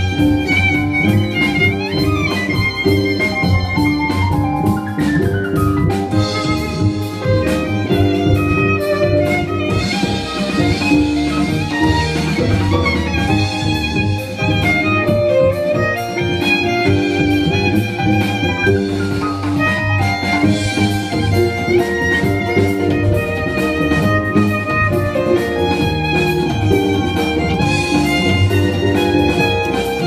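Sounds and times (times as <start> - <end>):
bowed violin melody: 0.0 - 30.0
plucked double bass: 0.0 - 30.0.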